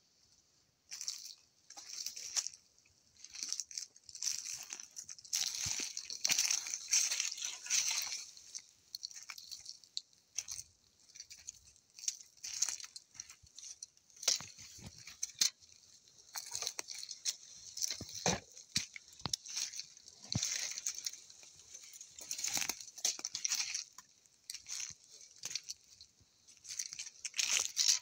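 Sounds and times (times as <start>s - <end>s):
footsteps crunching through dry vegetation: 0.9s - 28.0s.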